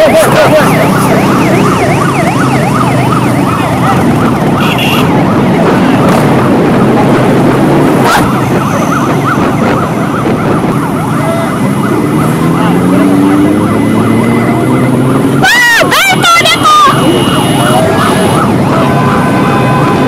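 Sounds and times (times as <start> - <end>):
motorcycle and car engines running: 0.0 - 20.0
police sirens yelping: 0.0 - 20.0.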